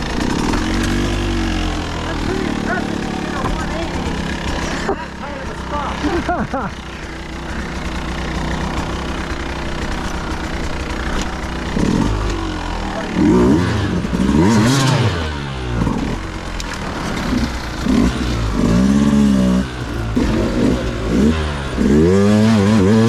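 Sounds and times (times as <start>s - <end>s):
dirt bike engine revving: 0.1s - 9.1s, 13.2s - 23.0s.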